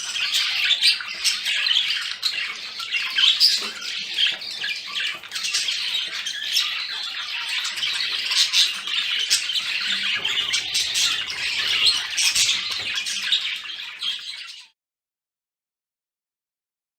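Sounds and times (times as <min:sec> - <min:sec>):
budgerigars chattering: 0:00.0 - 0:14.7.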